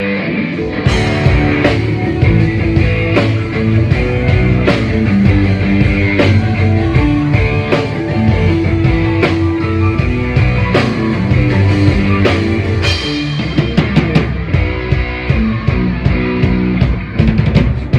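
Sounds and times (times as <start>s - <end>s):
live rock band: 0.0s - 17.9s.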